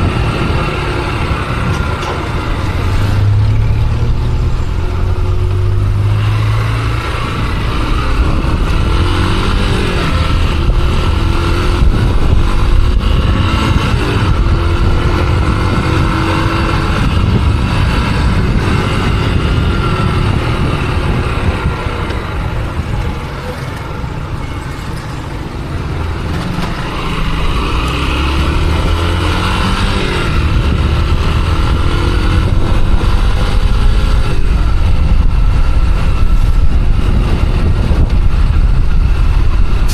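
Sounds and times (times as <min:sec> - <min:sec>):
motorcycle engine accelerating: 0:00.0 - 0:39.9
wind buffeting microphone: 0:00.0 - 0:39.9.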